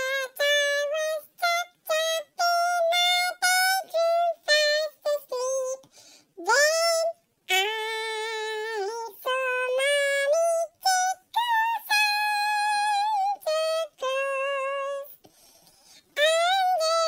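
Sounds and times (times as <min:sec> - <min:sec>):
high-pitched singing voice: 0:00.0 - 0:15.3, 0:16.0 - 0:17.0.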